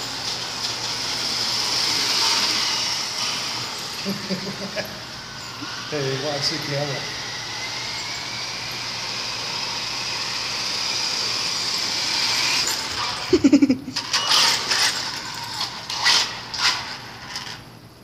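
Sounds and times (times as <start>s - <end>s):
electric motor whining: 0.0s - 17.6s.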